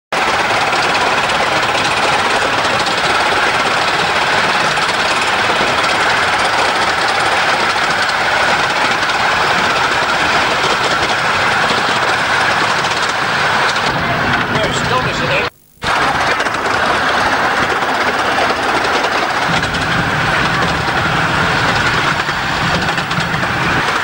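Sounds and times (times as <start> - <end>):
steam locomotive exhaust beats: 0.1 - 24.0
wheels clattering on rail: 0.1 - 24.0.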